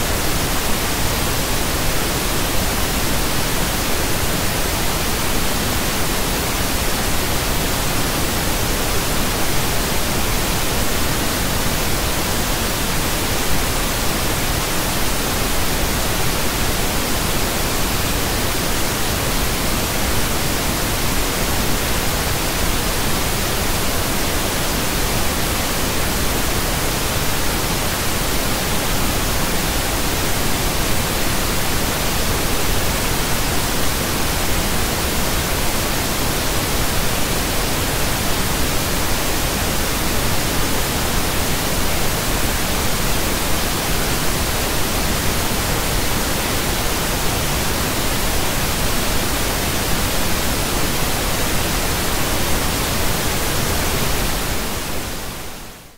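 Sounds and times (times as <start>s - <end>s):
steady pink noise hiss: 0.0s - 55.9s.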